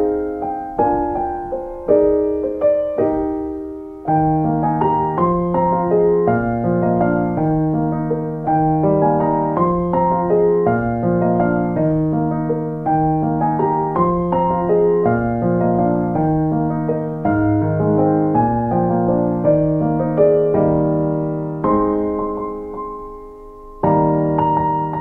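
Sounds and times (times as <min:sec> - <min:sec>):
piano chords and notes: 0:00.0 - 0:25.0.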